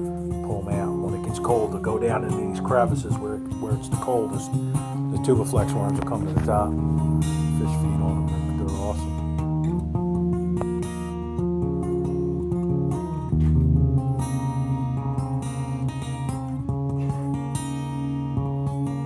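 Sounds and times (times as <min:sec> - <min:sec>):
guitar background music: 0:00.0 - 0:19.0
steady bass line: 0:00.0 - 0:19.0.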